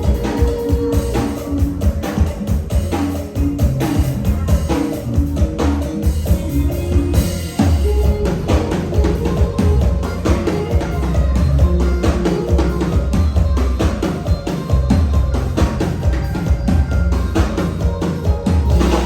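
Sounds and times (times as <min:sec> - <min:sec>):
music with drum beat and bass: 0:00.0 - 0:19.0.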